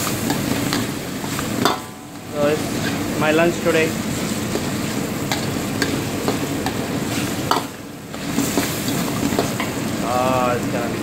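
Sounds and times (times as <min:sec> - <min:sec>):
meat sizzling in gravy: 0:00.0 - 0:11.0.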